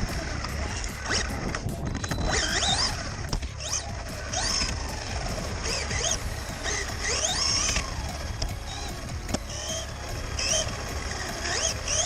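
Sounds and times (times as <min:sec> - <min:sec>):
electric toy car motor whining: 0:00.0 - 0:12.0
low rumbling noise: 0:00.0 - 0:12.0.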